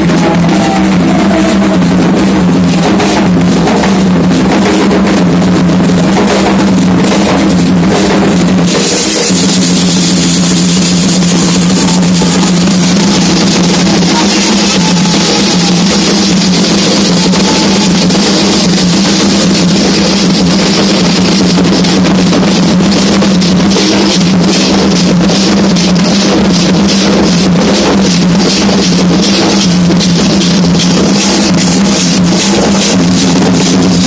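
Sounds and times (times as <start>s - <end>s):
ritual hand drumming: 0.0s - 34.0s
sharp drum strokes: 0.0s - 34.0s.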